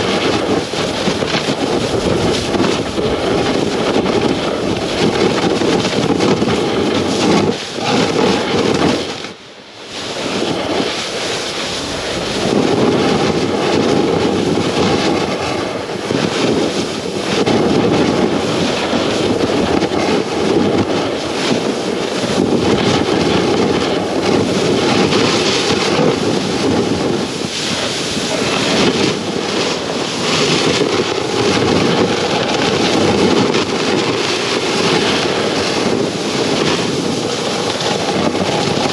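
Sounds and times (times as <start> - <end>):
snowboard scraping over snow: 0.0 - 38.9
wind on microphone: 0.0 - 38.9.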